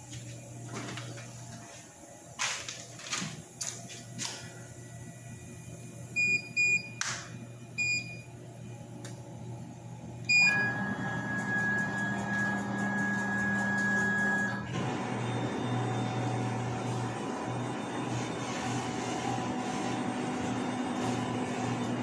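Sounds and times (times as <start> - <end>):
machine whining over low hum: 4.2 - 22.0.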